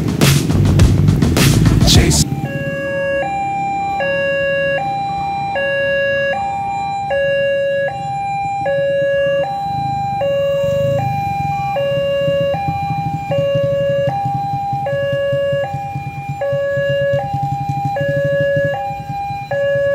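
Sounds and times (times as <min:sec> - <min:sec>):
level crossing two-tone warning: 0:01.8 - 0:19.9.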